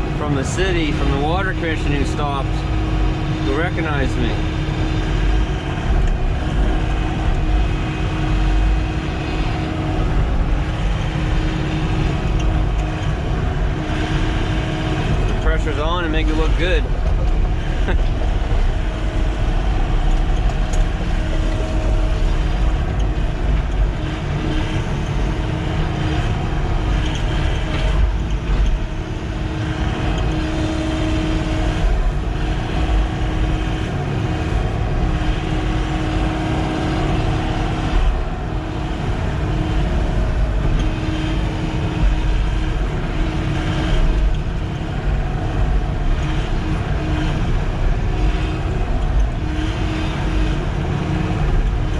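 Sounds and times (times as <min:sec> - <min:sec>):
excavator diesel engine running: 0:00.0 - 0:51.9
hydraulic hum: 0:00.0 - 0:51.9.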